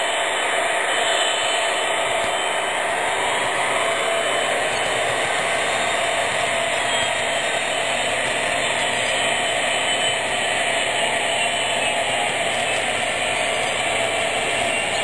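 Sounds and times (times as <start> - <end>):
model train wheels whirring: 0.0 - 15.0.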